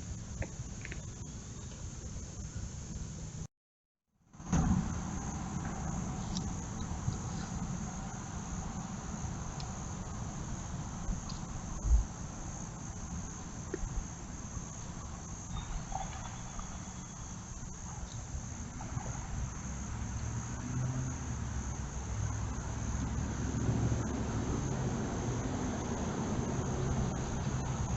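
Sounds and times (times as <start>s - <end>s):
high-pitched insect chorus: 0.0s - 3.4s, 4.3s - 27.9s
low outdoor rumble: 4.3s - 27.9s.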